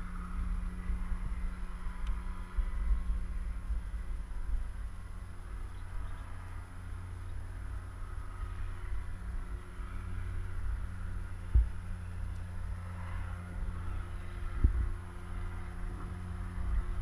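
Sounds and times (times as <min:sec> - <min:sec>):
boat engine drone: 0:00.0 - 0:17.0
wind rumble on microphone: 0:00.0 - 0:17.0.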